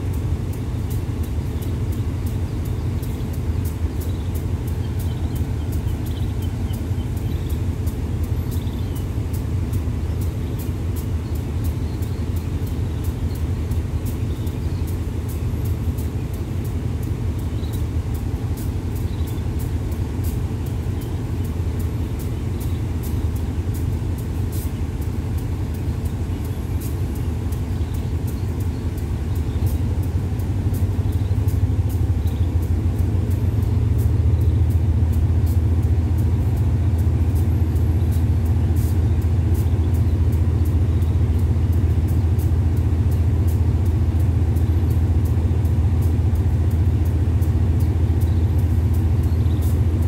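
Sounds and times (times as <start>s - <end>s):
faint clicks of train wheels: 0.0s - 50.0s
train rumble: 0.0s - 50.0s.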